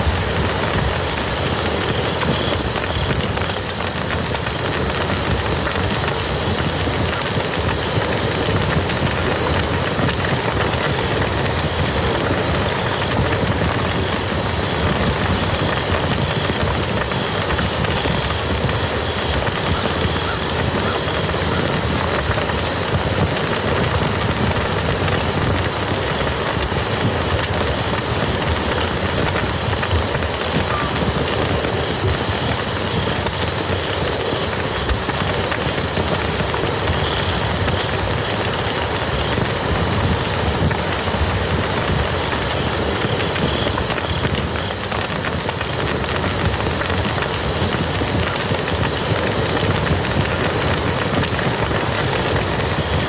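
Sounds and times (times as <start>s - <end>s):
campfire crackling: 0.0s - 53.0s
river rushing: 0.0s - 53.0s.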